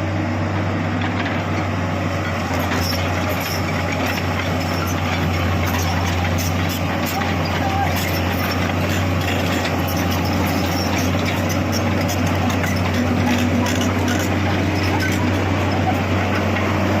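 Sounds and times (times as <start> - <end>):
excavator diesel engine drone: 0.0 - 17.0
machinery clatter: 0.9 - 17.0.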